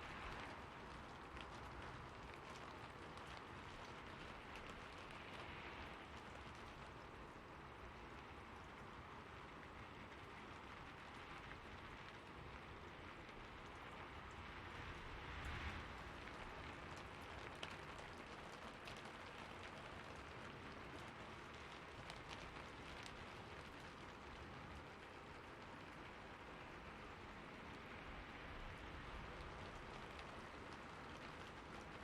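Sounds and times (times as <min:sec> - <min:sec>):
faint rain falling: 0:00.0 - 0:32.0.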